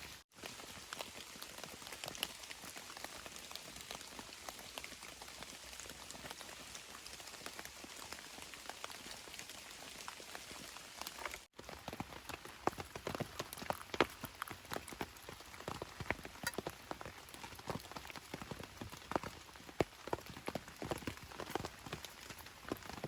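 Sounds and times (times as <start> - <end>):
raindrops pattering: 0.0 - 23.0.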